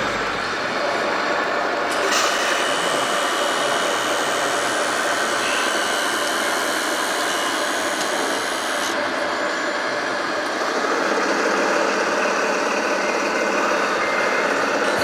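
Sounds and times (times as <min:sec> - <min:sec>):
toy truck engine idling: 0:00.0 - 0:15.0
hydraulic pump whining: 0:01.7 - 0:15.0.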